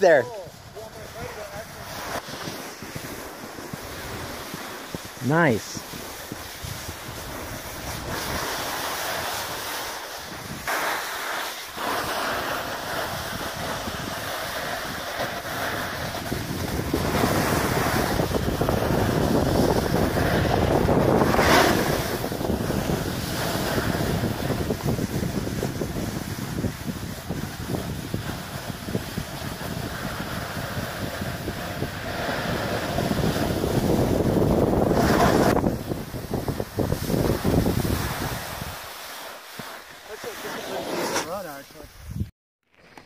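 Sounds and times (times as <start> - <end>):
hiss of sliding over snow: 0.0 - 42.2
wind buffeting microphone: 0.3 - 10.7, 11.9 - 38.8.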